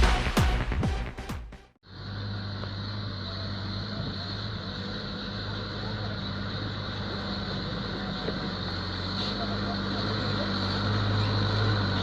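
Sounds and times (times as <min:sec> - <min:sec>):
truck engine running: 0:01.8 - 0:12.0.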